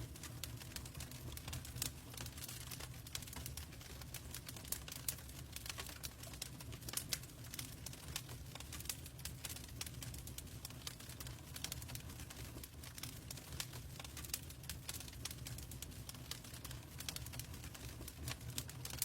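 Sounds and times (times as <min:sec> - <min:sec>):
log fire crackling: 0:00.0 - 0:19.0.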